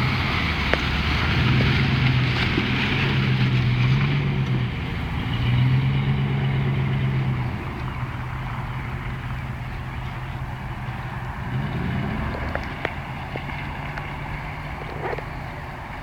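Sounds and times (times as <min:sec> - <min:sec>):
car engine revving: 0:00.0 - 0:16.0
tyres on sand and gravel: 0:00.0 - 0:16.0.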